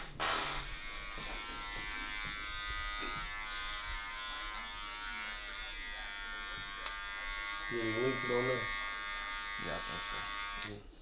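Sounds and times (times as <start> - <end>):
electric hair clippers buzzing: 0.2 - 10.8.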